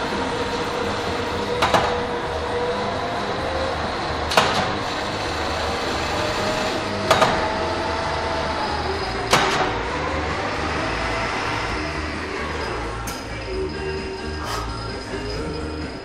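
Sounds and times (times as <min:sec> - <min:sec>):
metal lathe running with whine: 0:00.0 - 0:16.0.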